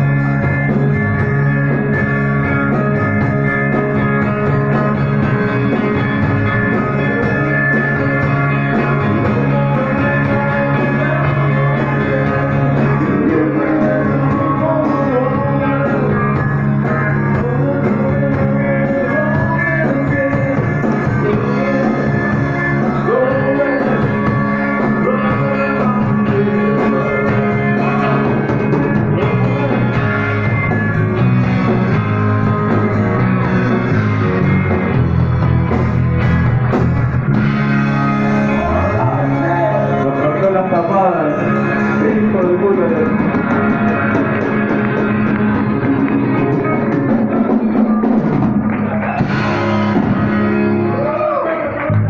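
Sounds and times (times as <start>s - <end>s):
drums: 0.0s - 52.0s
electric guitars: 0.0s - 52.0s.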